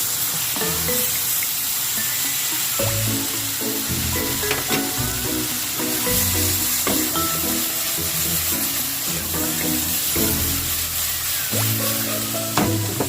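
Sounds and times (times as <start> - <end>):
food sizzling in a pan: 0.0 - 13.0
light music with plucked melody: 0.4 - 1.6, 2.5 - 13.0.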